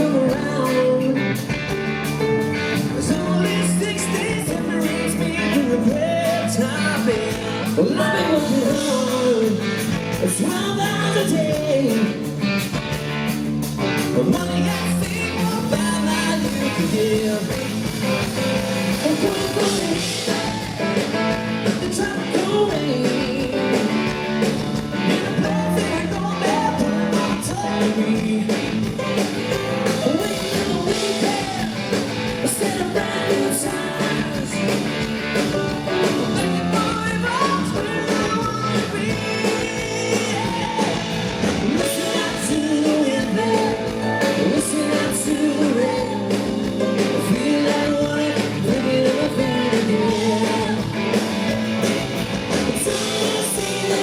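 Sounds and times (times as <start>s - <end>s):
person singing: 0.0s - 1.6s, 2.7s - 12.3s, 14.0s - 51.4s, 52.6s - 54.0s
live rock band playing: 0.0s - 54.0s.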